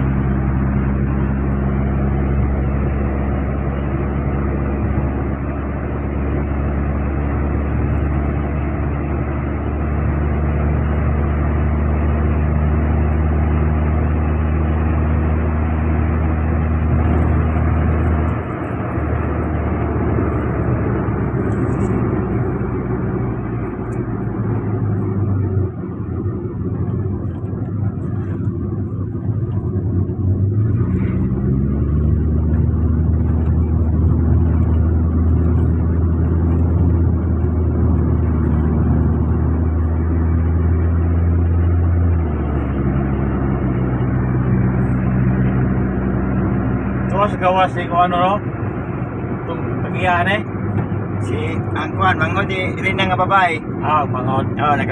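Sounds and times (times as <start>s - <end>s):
car engine running: 0.0s - 54.9s.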